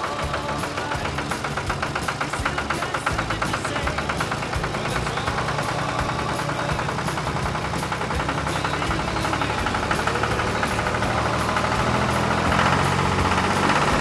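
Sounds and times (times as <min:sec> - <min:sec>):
pulsing exhaust beat: 0:00.0 - 0:14.0
tractor engine running: 0:00.0 - 0:14.0.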